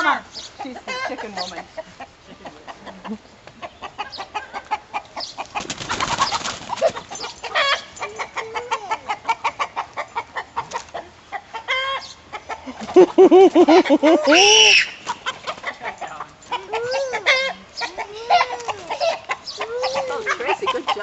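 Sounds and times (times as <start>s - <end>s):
chickens clucking: 0.0s - 21.0s
chickens squawking: 0.0s - 21.0s.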